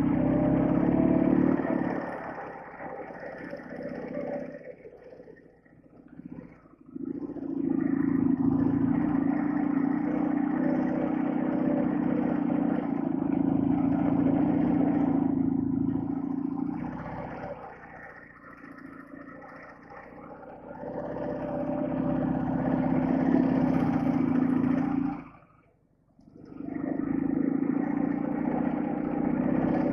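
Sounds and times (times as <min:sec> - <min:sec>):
motorcycle engine under load: 0:00.0 - 0:29.9.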